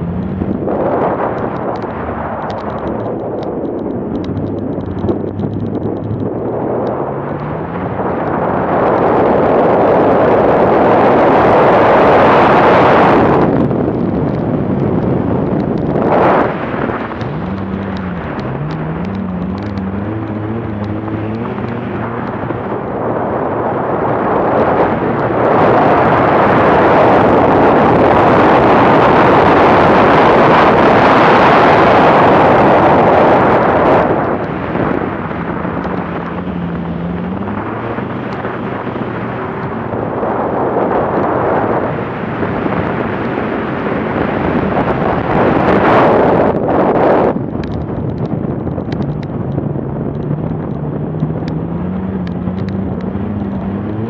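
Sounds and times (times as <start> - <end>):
car engine revving: 0.0 - 47.3, 49.8 - 54.0
wind and snow rushing: 0.0 - 54.0.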